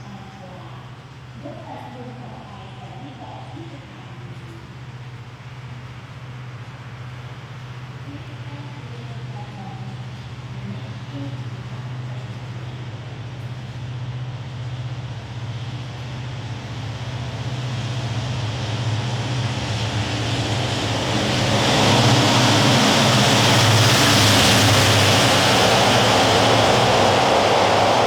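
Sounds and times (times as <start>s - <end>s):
locomotive engine hum: 0.0s - 28.0s
train wheels rumbling on rail: 0.0s - 28.0s.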